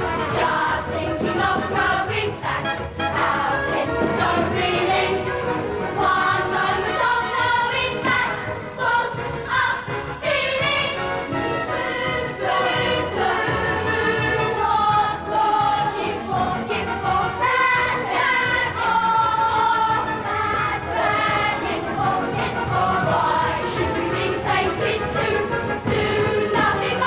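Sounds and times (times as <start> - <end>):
boys chorus singing: 0.0 - 27.0
instrumental accompaniment: 0.0 - 27.0.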